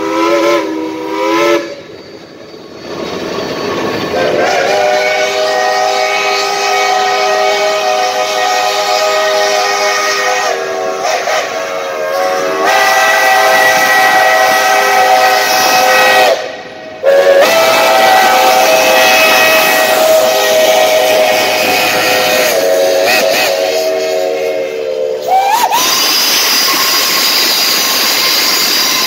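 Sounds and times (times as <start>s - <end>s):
steam locomotive chime whistle: 0.0s - 29.0s.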